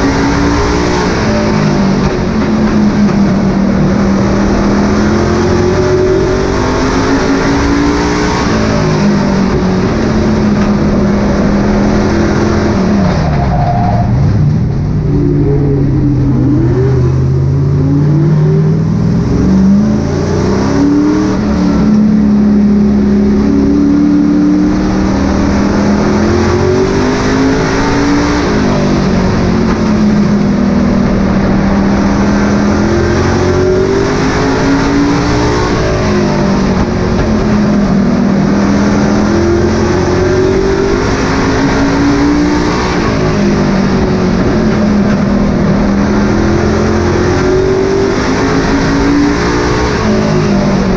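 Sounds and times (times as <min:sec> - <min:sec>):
race truck engine roaring: 0:00.0 - 0:50.9.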